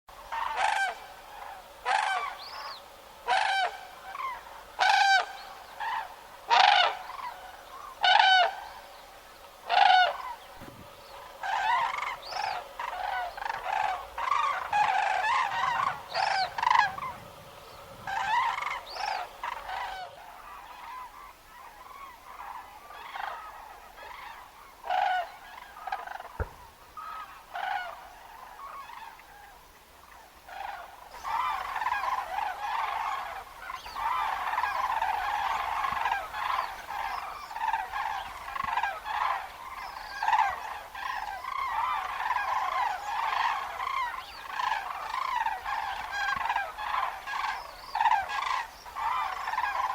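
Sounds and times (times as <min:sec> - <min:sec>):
cranes trumpeting calls: 0:00.2 - 0:49.9.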